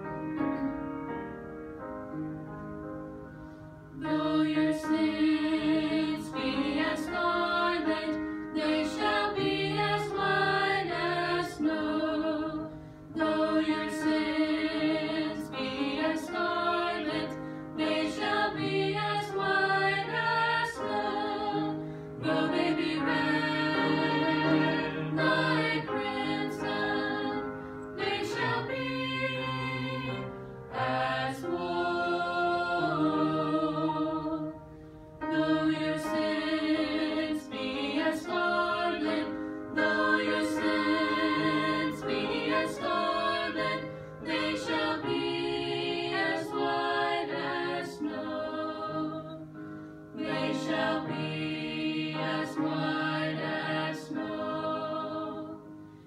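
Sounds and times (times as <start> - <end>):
vocal group singing a hymn: 4.0 - 56.0.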